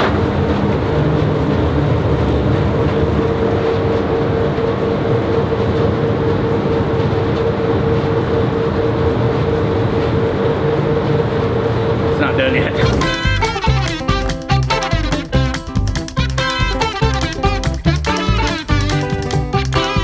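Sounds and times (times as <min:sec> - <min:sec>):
paint shaker machine rumbling: 0:00.0 - 0:20.0.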